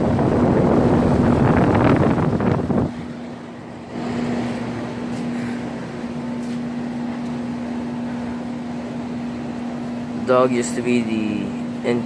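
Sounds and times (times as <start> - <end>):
air conditioner unit humming: 0.0 - 12.0
condenser fan rushing: 0.0 - 12.0.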